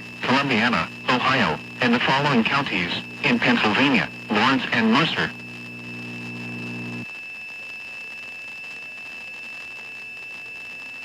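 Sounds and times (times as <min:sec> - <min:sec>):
low buzzing hum: 0:00.0 - 0:11.0.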